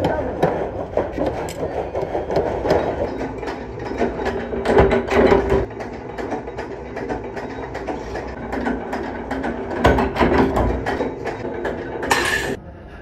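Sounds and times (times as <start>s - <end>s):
sheet metal machinery clattering: 0.0s - 12.6s.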